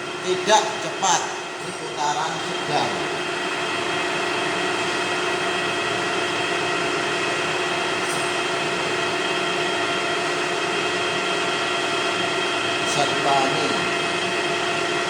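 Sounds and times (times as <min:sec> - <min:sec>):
metal lathe whining: 0:00.0 - 0:15.0.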